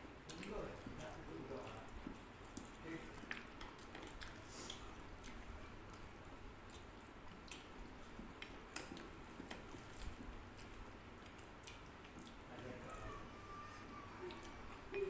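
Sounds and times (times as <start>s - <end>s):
people chewing: 0.1s - 15.0s.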